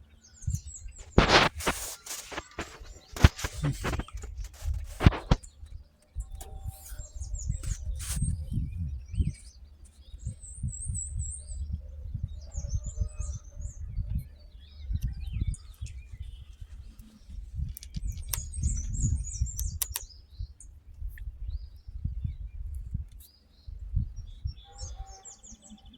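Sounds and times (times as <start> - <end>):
gusty wind buffeting microphone: 0.0 - 25.4
small birds chirping: 0.0 - 25.9.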